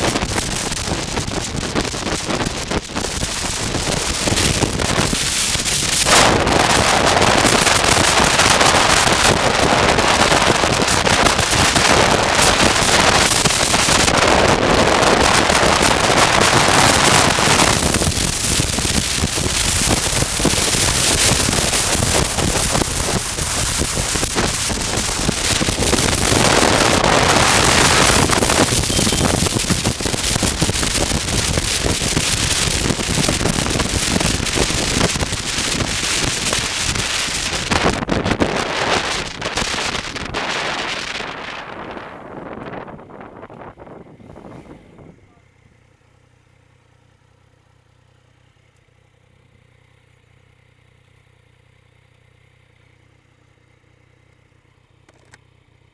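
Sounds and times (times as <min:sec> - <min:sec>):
wind rushing over microphone: 0:00.0 - 0:45.3.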